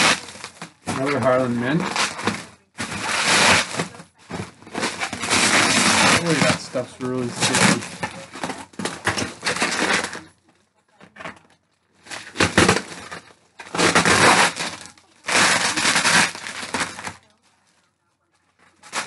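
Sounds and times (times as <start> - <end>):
bubble wrap crackling and rustling: 0.0 - 19.0.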